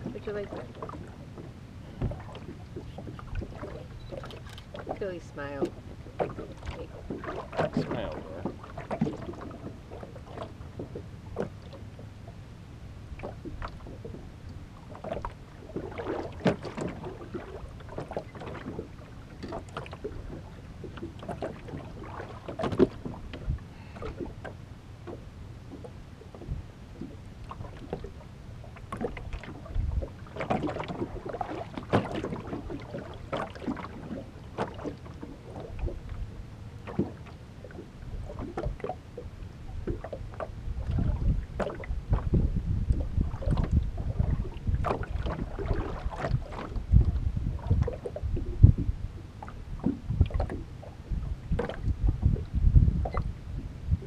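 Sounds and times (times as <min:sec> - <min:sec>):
steady low rumble: 0:00.0 - 0:31.5, 0:32.4 - 0:54.0
waves slapping metal hull: 0:00.0 - 0:54.0.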